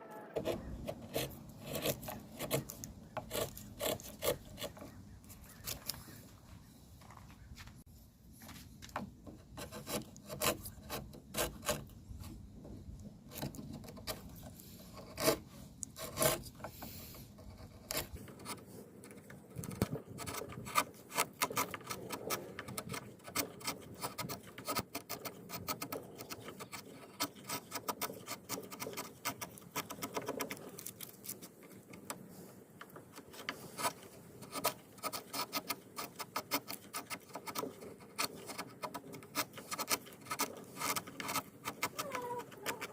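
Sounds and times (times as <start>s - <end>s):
wood scraping and rubbing: 0.3s - 42.9s.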